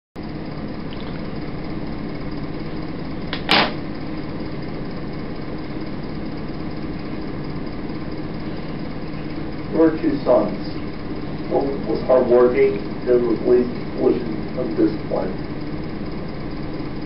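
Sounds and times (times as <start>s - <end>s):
videotape hum and hiss: 0.4s - 17.0s.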